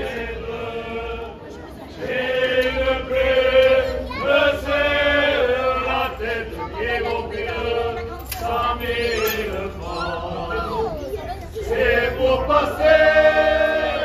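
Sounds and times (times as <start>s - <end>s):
group of voices chanting: 0.0s - 11.0s, 11.6s - 14.0s.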